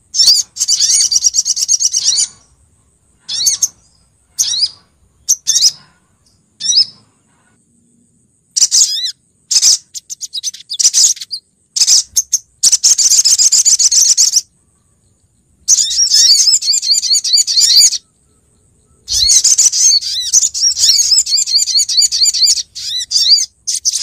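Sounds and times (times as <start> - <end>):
sunbird chirping and trilling: 0.0 - 24.0.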